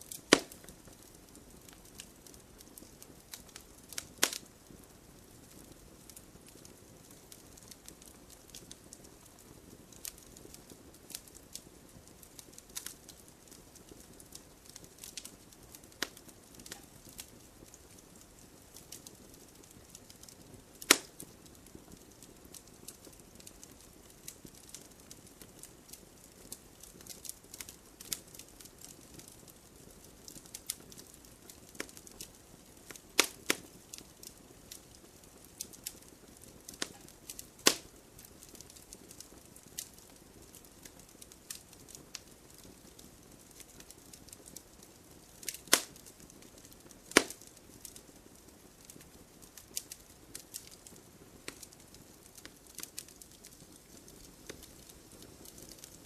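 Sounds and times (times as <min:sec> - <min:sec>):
campfire crackling: 0:00.0 - 0:56.0
faint hiss: 0:00.0 - 0:56.0
sharp pops of burning wood: 0:00.0 - 0:56.0.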